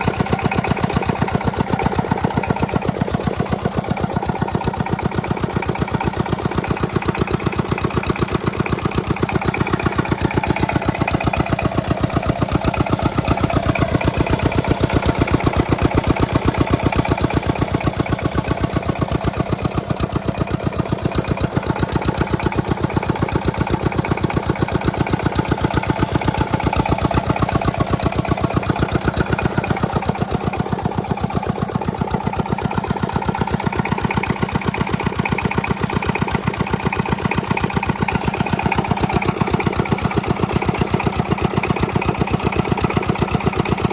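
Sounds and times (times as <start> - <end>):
diesel engine driving water pump: 0.0 - 43.9.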